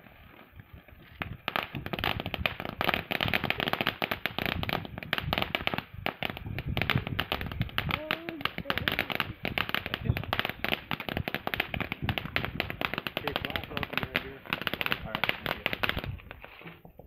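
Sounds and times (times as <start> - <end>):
ground firework crackling: 0.0 - 17.0.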